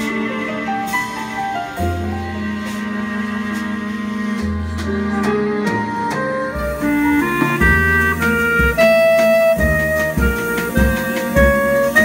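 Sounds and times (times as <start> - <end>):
cello: 0.0 - 12.0
piano: 0.0 - 12.0
violins: 0.0 - 12.0.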